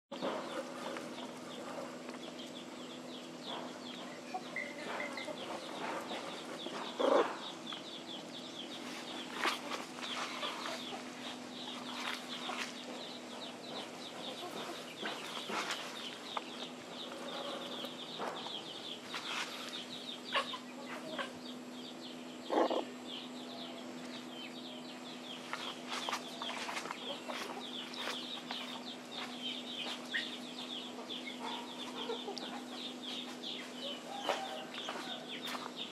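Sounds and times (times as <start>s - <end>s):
chickens clucking: 0.1s - 35.9s.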